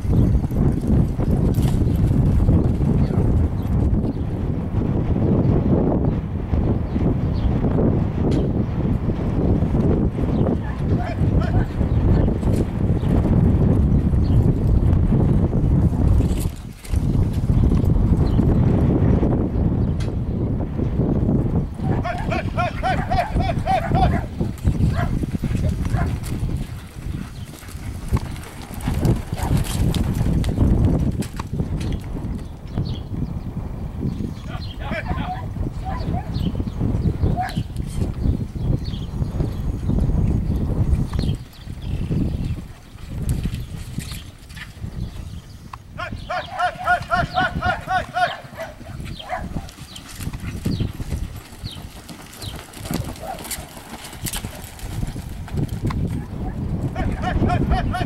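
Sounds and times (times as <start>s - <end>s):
hoofbeats on dirt: 0.0s - 5.2s, 8.1s - 20.2s, 21.2s - 33.4s, 34.1s - 58.0s.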